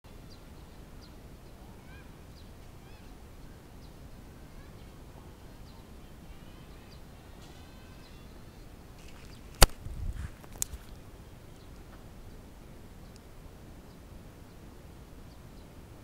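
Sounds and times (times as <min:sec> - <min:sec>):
birds chirping: 0:00.1 - 0:16.0
low outdoor rumble: 0:00.1 - 0:16.0.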